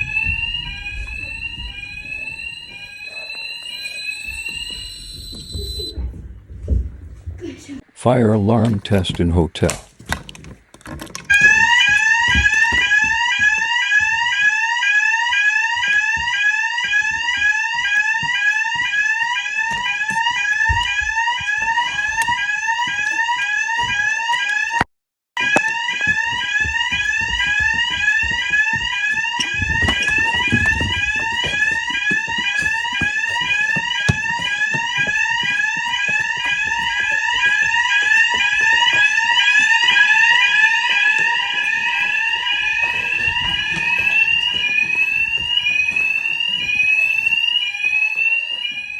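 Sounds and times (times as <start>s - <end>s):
fire alarm sweeping tone: 0.0s - 6.9s, 10.1s - 48.9s.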